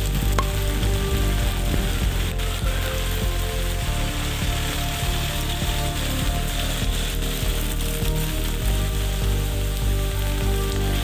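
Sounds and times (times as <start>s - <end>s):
background music: 0.0s - 11.0s
heavy rain on wet street: 0.0s - 11.0s.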